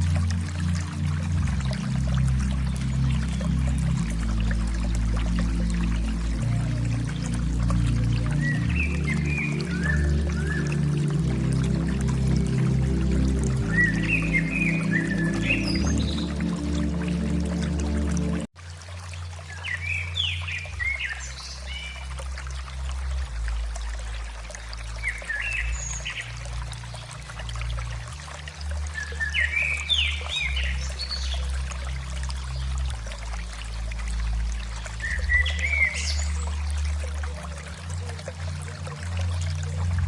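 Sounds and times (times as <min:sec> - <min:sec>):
running water trickling: 0:00.0 - 0:40.0.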